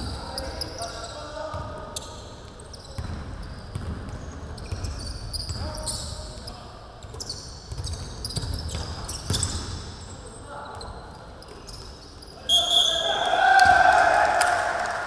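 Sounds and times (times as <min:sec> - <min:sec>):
sneakers squeaking: 0:00.0 - 0:13.1.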